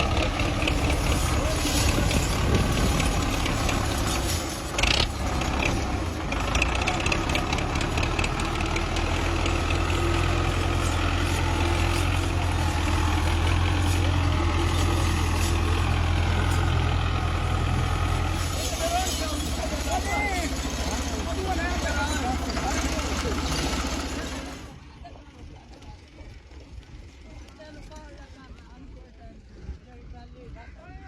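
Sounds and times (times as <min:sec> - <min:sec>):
tractor diesel engine running: 0:00.0 - 0:28.7.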